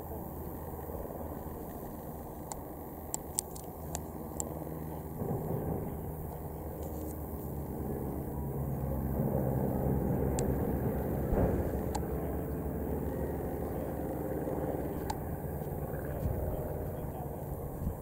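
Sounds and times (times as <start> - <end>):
biplane engines droning: 0.0 - 18.0
sharp distant cracks: 1.6 - 17.7.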